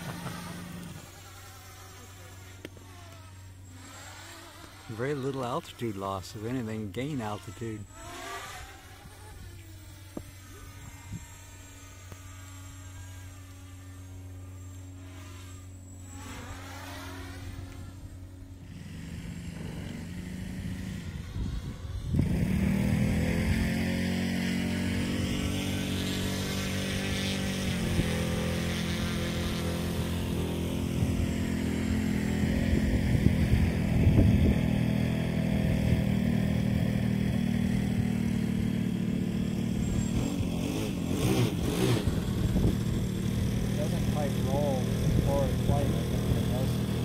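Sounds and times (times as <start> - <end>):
drone propellers buzzing: 0.0 - 47.0.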